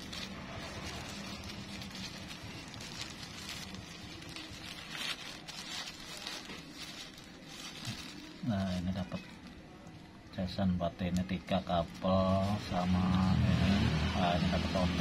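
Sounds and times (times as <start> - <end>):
plastic bag crinkling: 0.0 - 10.2, 11.0 - 13.6.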